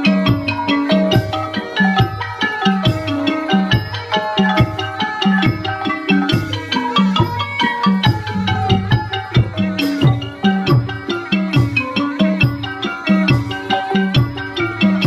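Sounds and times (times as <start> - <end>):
drum beats: 0.0 - 15.0.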